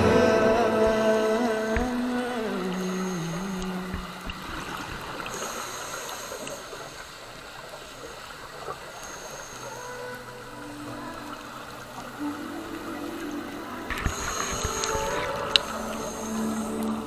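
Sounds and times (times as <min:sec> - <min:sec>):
muffled underwater water noise: 0:00.0 - 0:17.0
faint clicks: 0:00.9 - 0:12.3, 0:13.1 - 0:17.0.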